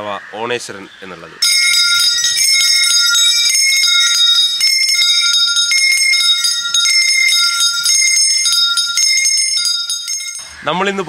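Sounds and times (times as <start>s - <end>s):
small hand bells ringing: 1.4s - 10.6s.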